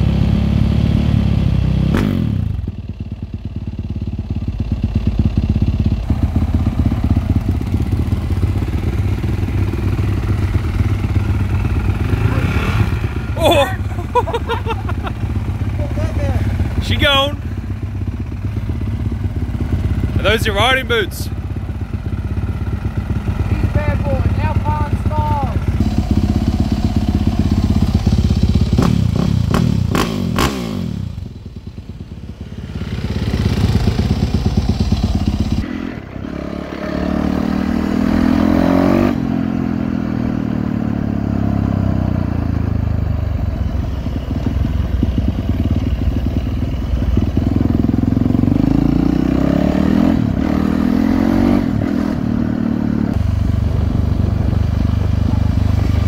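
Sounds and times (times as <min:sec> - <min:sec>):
dirt bike engine revving: 0:05.3 - 0:31.3, 0:32.4 - 0:42.4, 0:44.4 - 0:56.0.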